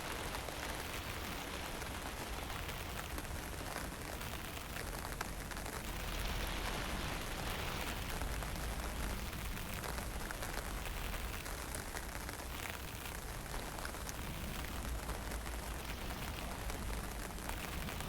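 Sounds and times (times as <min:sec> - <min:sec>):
fine rain hissing: 0:00.0 - 0:18.0
low wind rumble: 0:00.0 - 0:18.0
raindrop ticks: 0:00.0 - 0:18.0.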